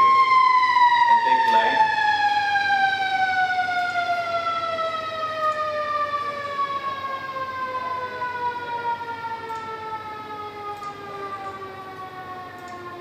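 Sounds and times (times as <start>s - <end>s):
siren winding down: 0.0s - 13.0s.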